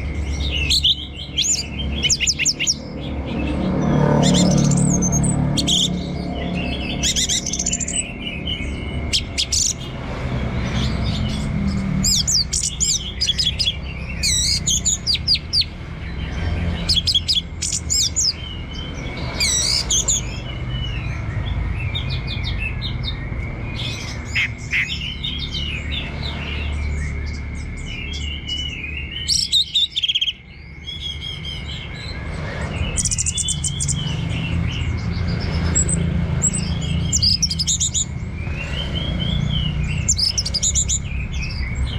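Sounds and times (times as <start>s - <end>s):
thrush singing whistles and trills: 0.0s - 41.9s.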